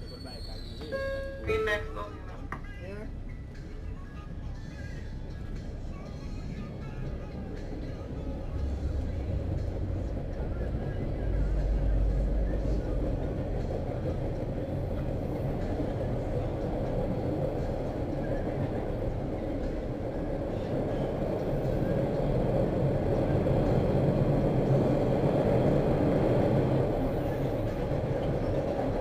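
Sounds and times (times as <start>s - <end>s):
metro train rumbling on track: 0.0s - 29.0s.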